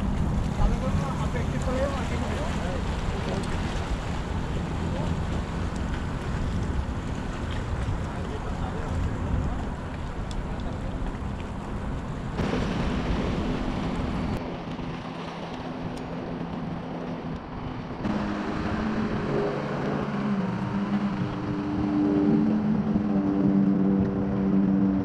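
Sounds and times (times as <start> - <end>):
motorboat engine running: 0.0 - 25.0
wind buffeting microphone: 0.0 - 25.0.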